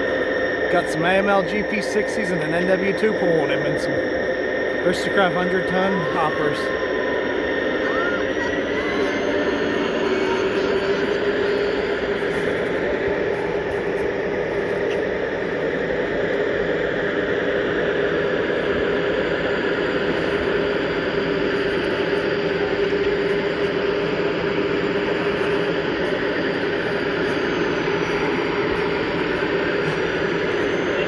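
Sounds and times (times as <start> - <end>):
model train running hum: 0.0 - 31.0.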